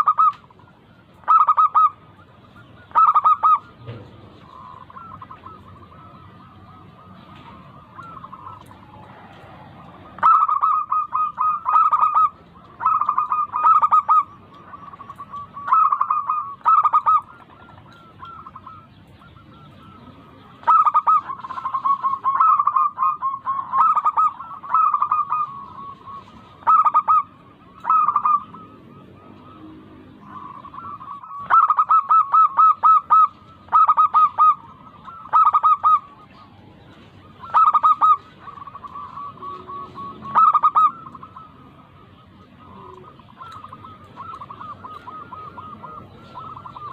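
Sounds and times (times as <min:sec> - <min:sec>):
doves cooing: 0:00.0 - 0:46.9.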